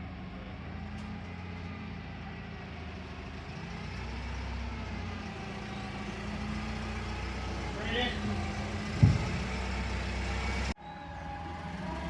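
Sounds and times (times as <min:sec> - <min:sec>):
heavy vehicle engine idling: 0:00.0 - 0:10.8.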